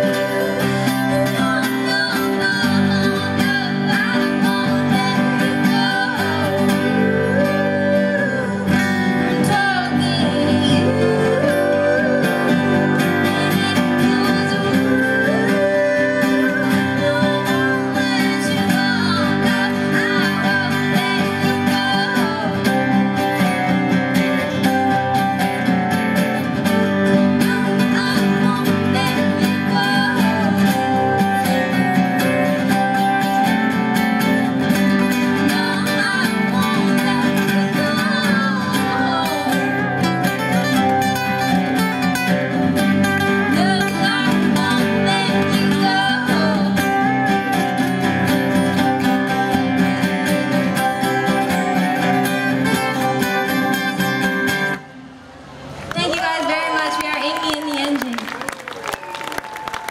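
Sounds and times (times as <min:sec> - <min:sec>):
live pop band playing: 0:00.0 - 0:55.0
strummed acoustic guitars: 0:00.0 - 0:55.8.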